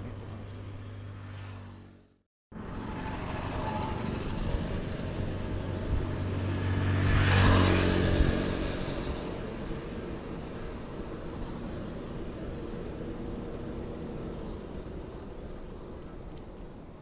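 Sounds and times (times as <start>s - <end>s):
traffic rumble: 0.0s - 17.0s
vehicle passing close by: 0.7s - 15.0s.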